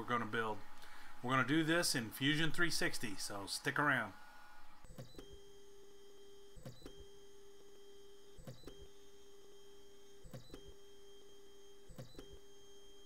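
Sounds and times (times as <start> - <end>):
printer stepper motors whining: 0.0 - 13.0.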